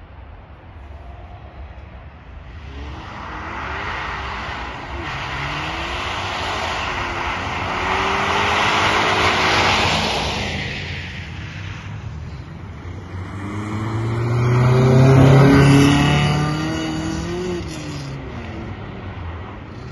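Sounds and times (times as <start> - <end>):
car engine revving: 2.4 - 19.0.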